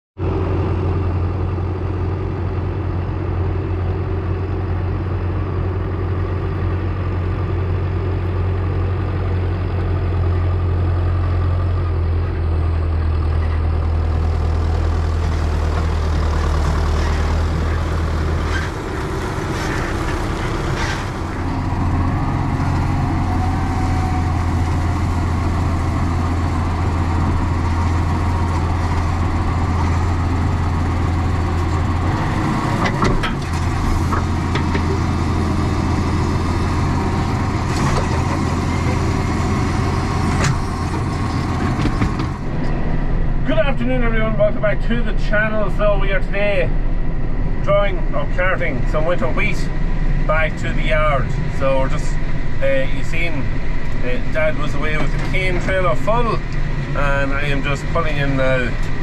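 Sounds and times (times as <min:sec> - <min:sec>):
diesel engine running: 0:00.2 - 0:59.0.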